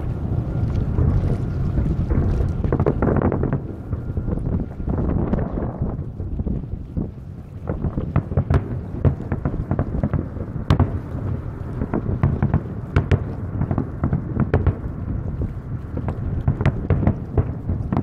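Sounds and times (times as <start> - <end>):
fireworks bursting: 0.0 - 18.0
low rumble: 0.0 - 18.0.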